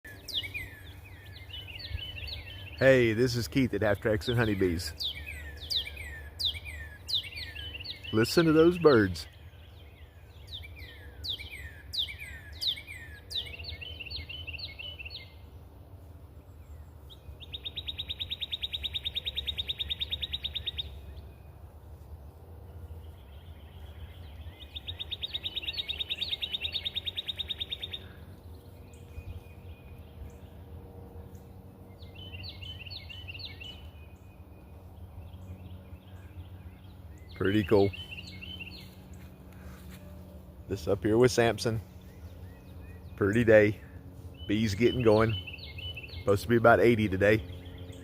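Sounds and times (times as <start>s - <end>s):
songbirds singing: 0.0s - 48.0s.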